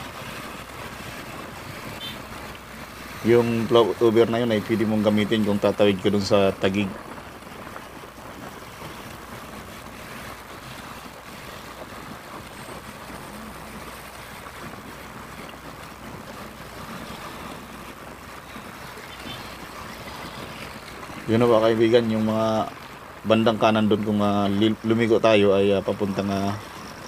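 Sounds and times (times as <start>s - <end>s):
vehicle road noise: 0.0s - 27.0s
wind buffeting microphone: 0.0s - 27.0s.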